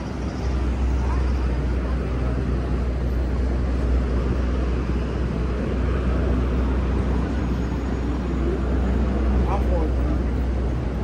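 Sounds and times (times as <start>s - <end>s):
street hubbub: 0.0s - 11.0s
traffic rumble: 0.0s - 11.0s.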